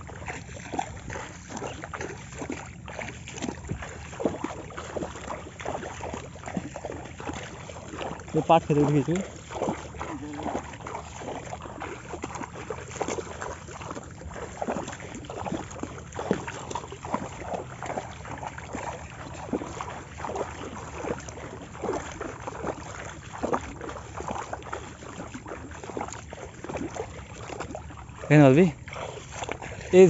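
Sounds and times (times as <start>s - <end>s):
footsteps wading through water: 0.0s - 30.0s.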